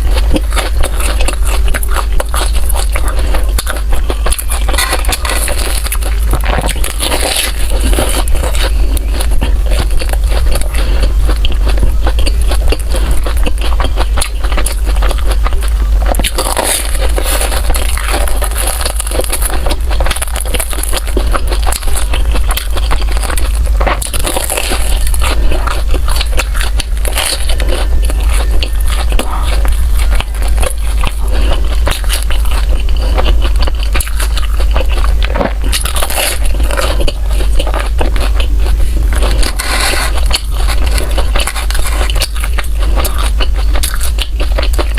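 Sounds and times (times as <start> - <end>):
biting and chewing bread: 0.0 - 44.9
moist crackly mouth sounds: 0.0 - 44.9
steady low hum: 0.0 - 44.9.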